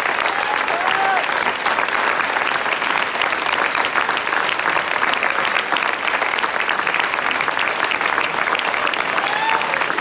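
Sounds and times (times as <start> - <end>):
large audience applauding: 0.0 - 10.0.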